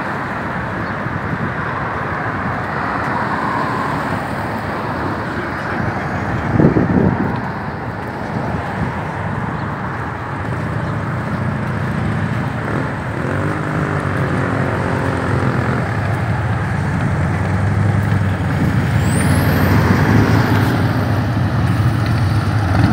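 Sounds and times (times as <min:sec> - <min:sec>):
motorcycle engines running: 0:00.0 - 0:22.9
road traffic passing: 0:00.0 - 0:22.9.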